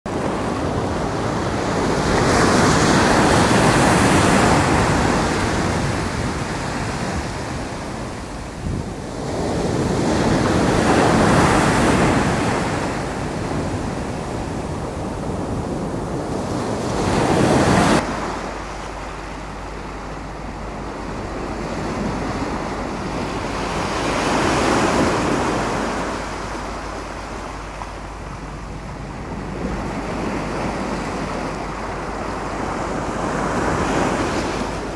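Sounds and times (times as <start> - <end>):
sea waves breaking on sand: 0.1 - 34.9
wind rumble on microphone: 0.1 - 34.9.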